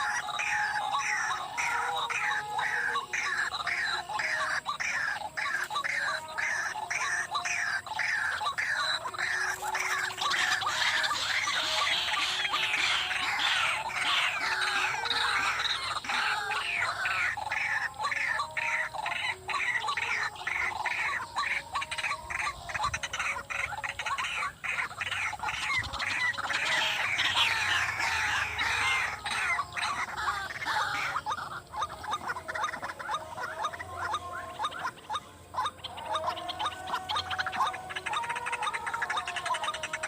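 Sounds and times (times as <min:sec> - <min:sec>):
bird harsh repeated calls: 0:00.0 - 0:40.0.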